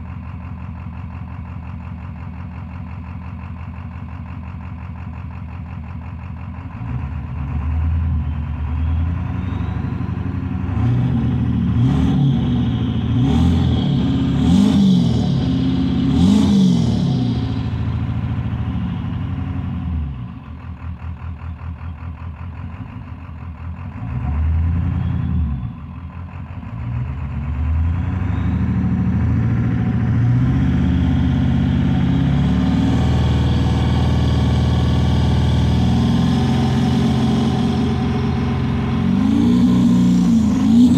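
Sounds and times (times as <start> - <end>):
diesel engine revving: 6.6 - 40.9.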